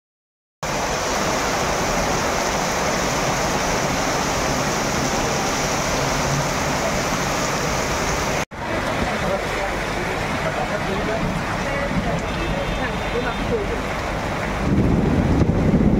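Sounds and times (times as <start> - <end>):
heavy rain: 0.6 - 15.9.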